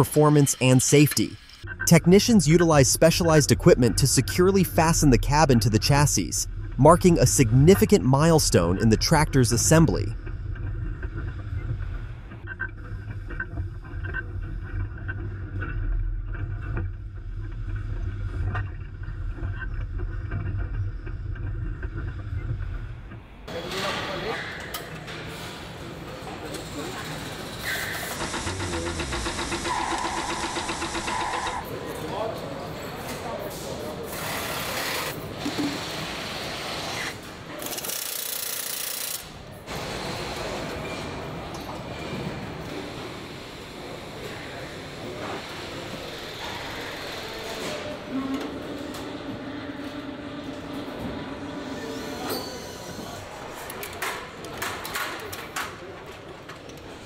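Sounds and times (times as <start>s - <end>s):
machinery clatter and whirr: 0.0s - 57.0s.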